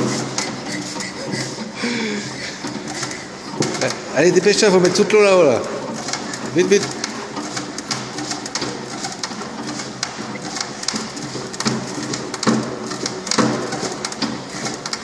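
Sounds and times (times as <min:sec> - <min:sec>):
hand water pump clattering: 0:00.0 - 0:15.0.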